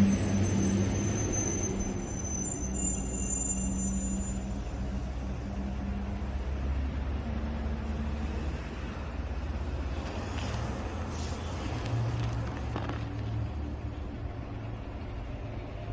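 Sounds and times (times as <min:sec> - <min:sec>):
vehicle engine rumbling: 0:00.0 - 0:15.9.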